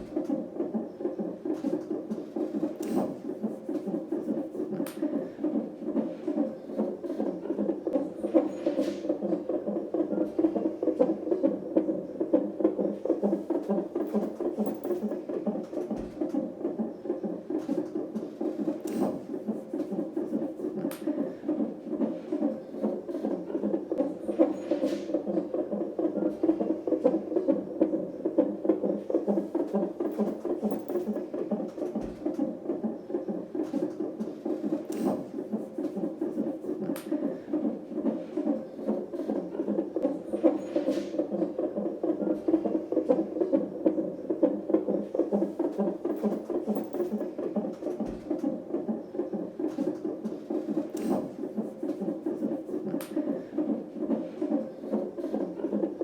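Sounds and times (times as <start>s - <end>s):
fetal heartbeat whooshing pulse: 0.0s - 56.0s.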